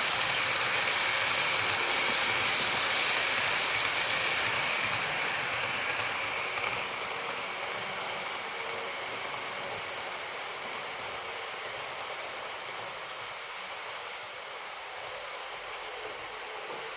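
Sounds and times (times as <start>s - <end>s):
model train running on track: 0.0s - 16.9s.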